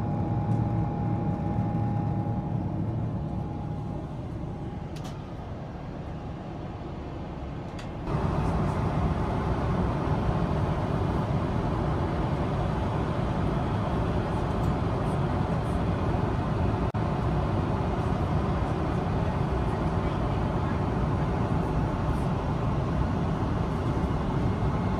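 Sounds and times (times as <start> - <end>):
airliner cabin noise: 0.0 - 24.9.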